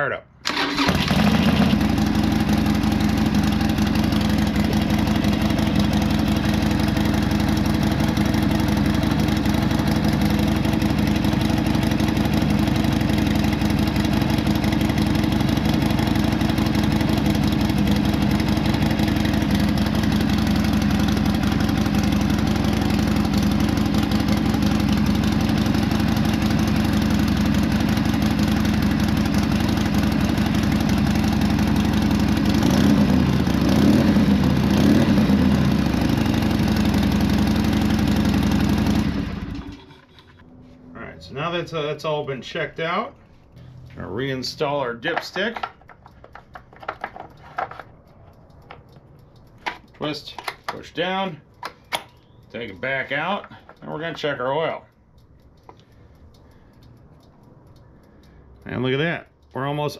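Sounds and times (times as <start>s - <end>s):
motorcycle engine idling: 0.5s - 40.5s, 48.0s - 59.9s.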